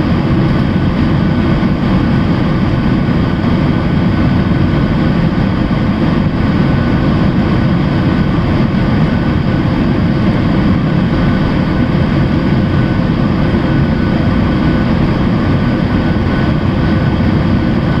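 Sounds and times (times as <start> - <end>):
airplane cabin low rumble: 0.0 - 18.0
faint steady whine: 0.0 - 18.0.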